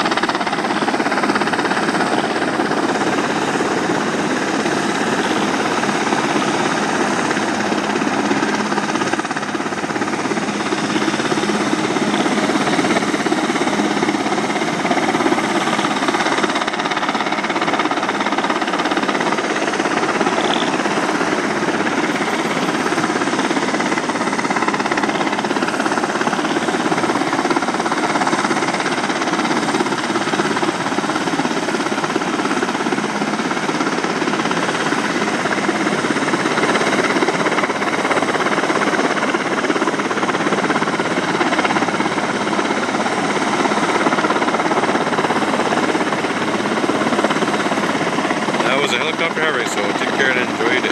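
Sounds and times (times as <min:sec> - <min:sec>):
helicopter engine noise: 0:00.0 - 0:50.9
helicopter rotor chop: 0:00.0 - 0:50.9.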